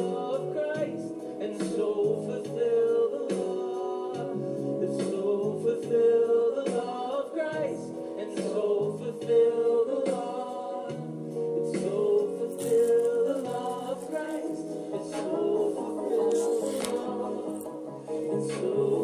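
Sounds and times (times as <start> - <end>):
instrumental backing: 0.0 - 19.0
voices singing gospel song: 0.0 - 19.0.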